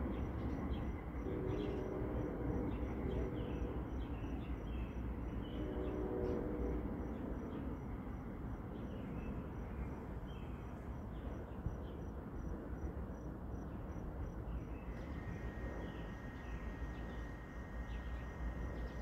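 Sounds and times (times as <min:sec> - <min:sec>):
crickets chirping: 0:00.0 - 0:19.0
faint steady whine: 0:00.0 - 0:19.0.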